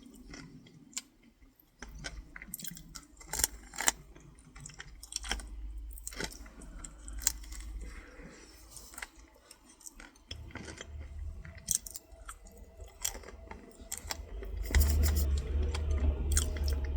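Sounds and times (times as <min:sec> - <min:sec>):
close-up chewing: 0:00.0 - 0:16.9.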